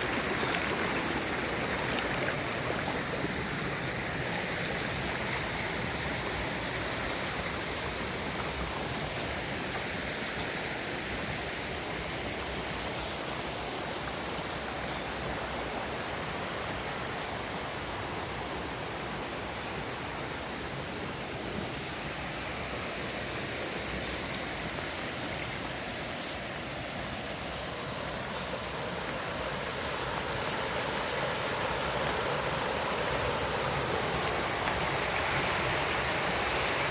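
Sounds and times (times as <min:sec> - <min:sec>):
flowing water rushing: 0:00.0 - 0:36.9.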